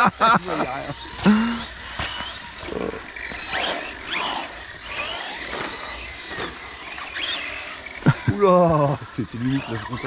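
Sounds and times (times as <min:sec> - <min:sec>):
remote-control car motors whining: 0:00.0 - 0:10.0.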